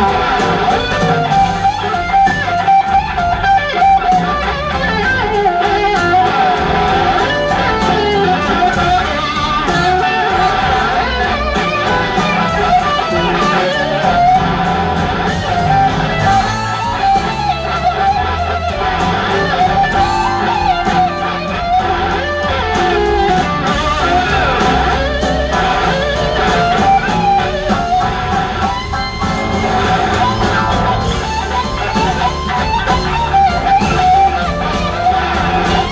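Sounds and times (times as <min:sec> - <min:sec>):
drums: 0:00.0 - 0:35.9
electric bass: 0:00.0 - 0:35.9
electric guitar lead: 0:00.0 - 0:35.9.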